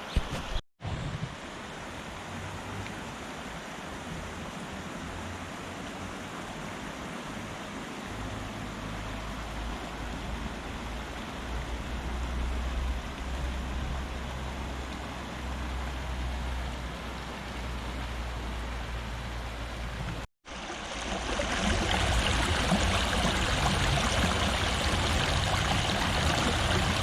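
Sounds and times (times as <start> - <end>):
river water rushing: 1.4 - 27.0.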